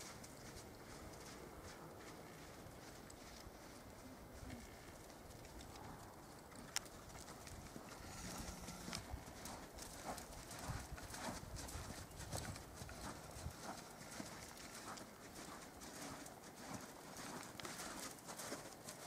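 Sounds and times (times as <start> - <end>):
horse hoofbeats on soft dirt: 0.0 - 19.0.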